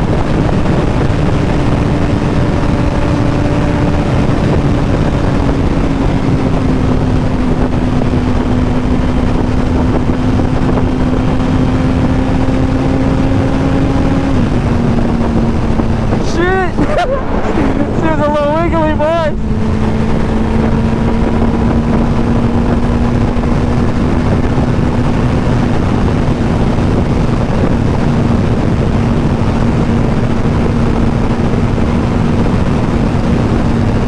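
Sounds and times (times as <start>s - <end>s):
motorcycle engine hum: 0.0s - 34.0s
wind rush: 0.0s - 34.0s.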